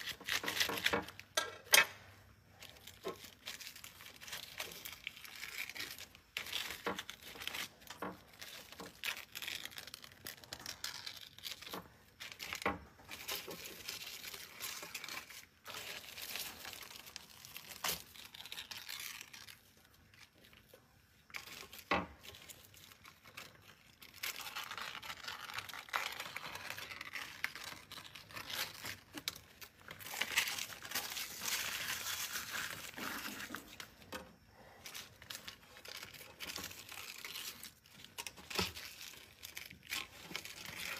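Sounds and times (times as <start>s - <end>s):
aluminium foil crinkling and tearing: 0.0s - 40.9s.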